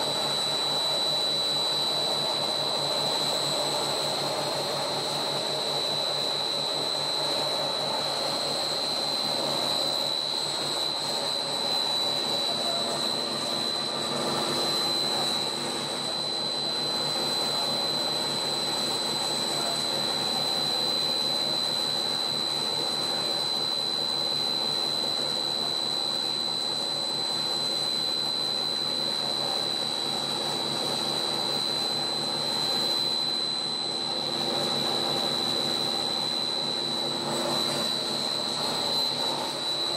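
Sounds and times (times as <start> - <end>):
high-pitched whine: 0.0 - 39.9
industrial machine drone: 0.0 - 39.9.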